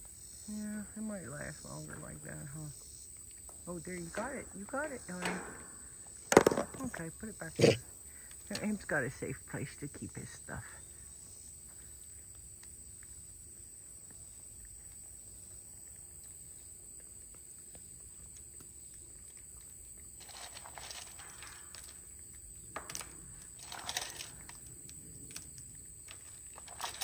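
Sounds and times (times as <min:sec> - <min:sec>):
monkey rustling and crunching food: 0:01.6 - 0:27.0.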